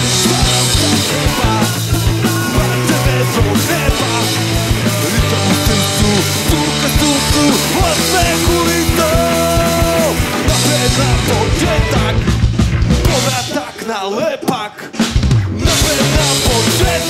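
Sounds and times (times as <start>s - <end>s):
bass guitar: 0.0s - 13.7s, 15.0s - 17.0s
distorted electric guitars: 0.0s - 17.0s
drum kit beat: 0.0s - 17.0s.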